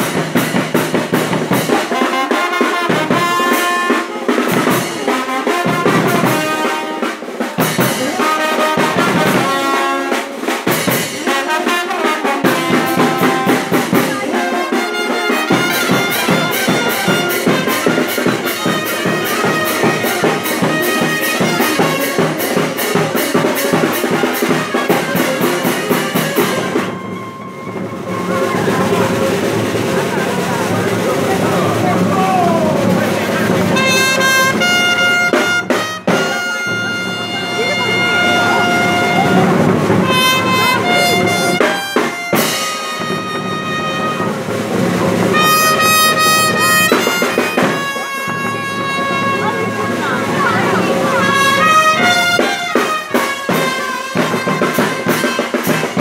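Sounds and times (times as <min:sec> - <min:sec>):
brass band playing: 0:00.0 - 0:56.0
quick steady drumbeat: 0:00.0 - 0:56.0.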